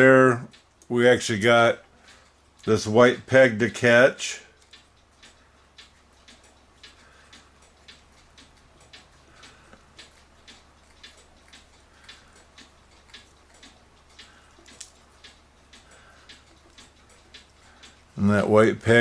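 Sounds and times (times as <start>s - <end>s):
mechanical clock ticking: 0.0s - 19.0s.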